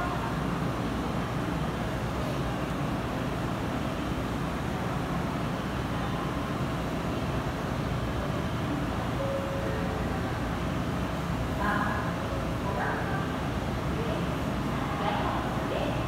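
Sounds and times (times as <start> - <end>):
train air conditioner humming: 0.0 - 16.0.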